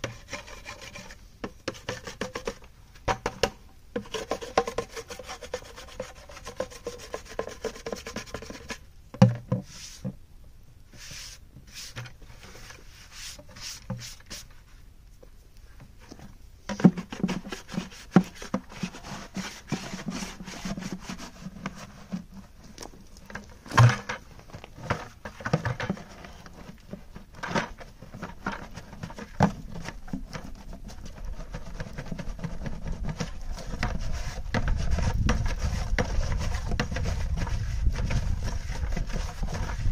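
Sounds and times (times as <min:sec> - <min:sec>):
clay scraping in plastic bucket: 0:00.0 - 0:10.2, 0:10.9 - 0:14.8, 0:15.7 - 0:39.9.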